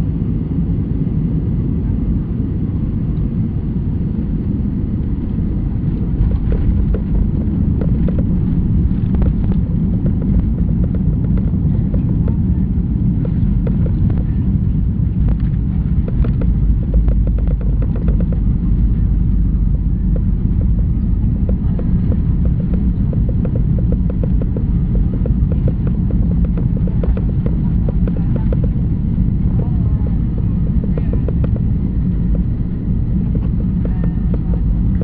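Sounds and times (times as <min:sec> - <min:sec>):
rumble of engines and wheels: 0:00.0 - 0:35.0.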